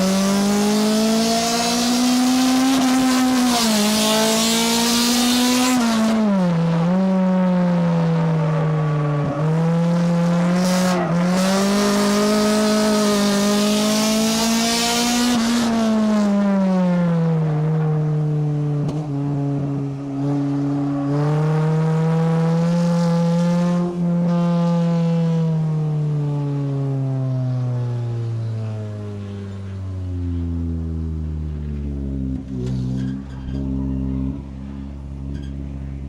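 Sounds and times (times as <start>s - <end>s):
race car engine: 0.0s - 36.0s.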